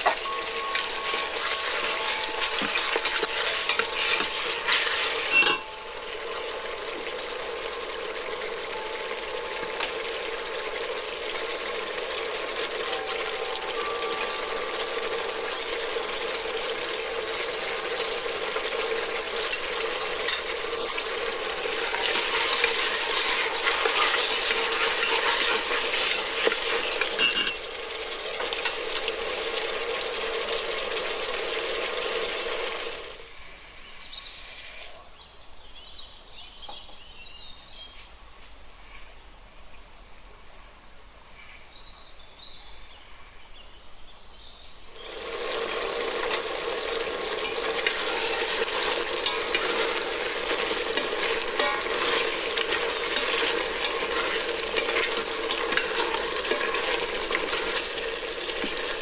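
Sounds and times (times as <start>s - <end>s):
vegetables and chicken sizzling: 0.0s - 35.1s, 44.8s - 59.0s.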